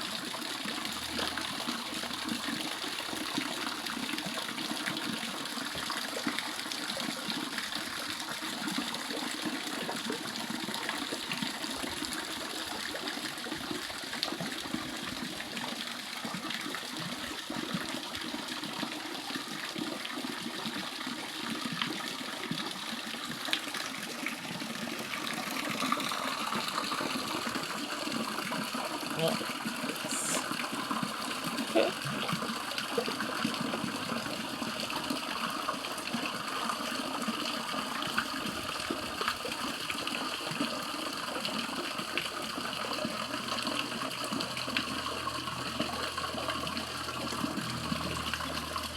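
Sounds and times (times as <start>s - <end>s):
water gushing from shower spray: 0.0s - 48.9s.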